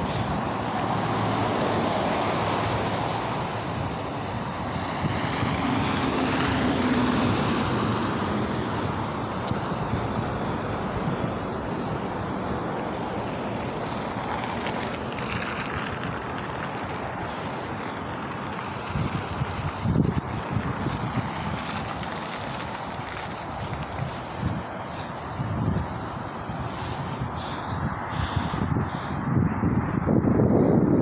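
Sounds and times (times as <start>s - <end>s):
low engine hum of passing vehicle: 0.0s - 31.0s
traffic on a slushy road: 0.0s - 31.0s.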